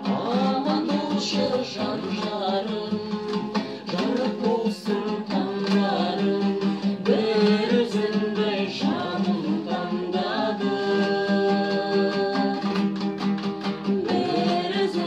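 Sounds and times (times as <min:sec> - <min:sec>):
man and women singing: 0:00.0 - 0:13.0, 0:13.7 - 0:15.0
lutes strummed: 0:00.0 - 0:15.0.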